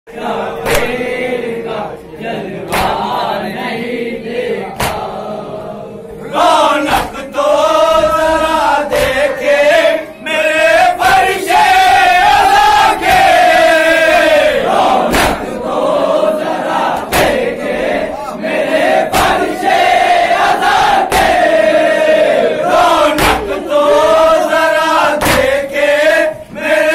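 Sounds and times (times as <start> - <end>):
men chanting in a crowd: 0.1 - 26.9
sharp rhythmic strikes: 0.2 - 1.7, 2.4 - 5.6, 6.4 - 26.9.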